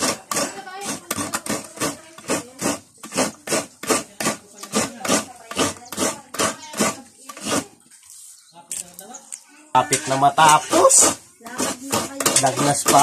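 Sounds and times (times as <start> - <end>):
coconut grating rasping strokes: 0.0 - 8.4, 9.8 - 13.0.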